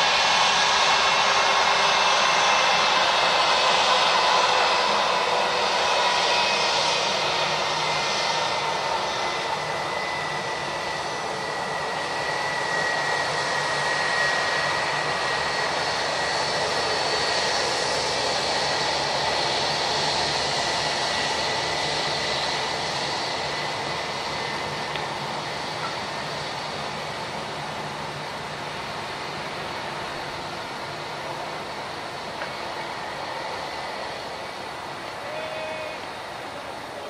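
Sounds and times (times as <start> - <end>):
jet engines running with whine: 0.0 - 37.0.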